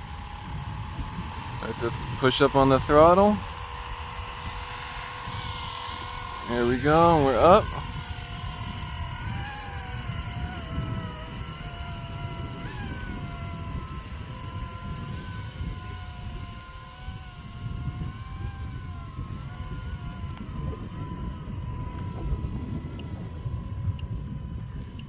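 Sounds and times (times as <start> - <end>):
rc helicopter motor and rotors whining: 0.0 - 25.0
wind rumble on microphone: 0.0 - 25.0.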